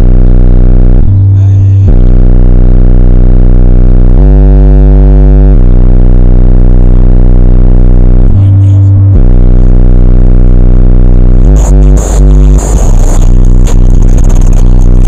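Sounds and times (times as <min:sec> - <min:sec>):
deep subwoofer bass notes: 0:00.0 - 0:15.0.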